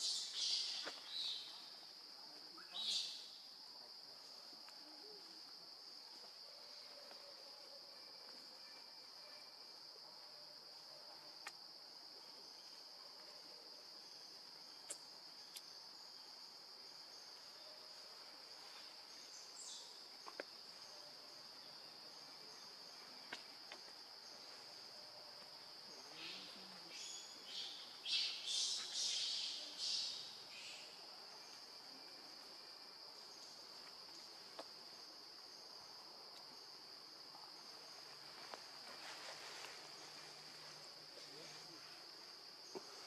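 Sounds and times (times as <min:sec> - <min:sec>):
forest insects droning: 0:00.0 - 0:43.0.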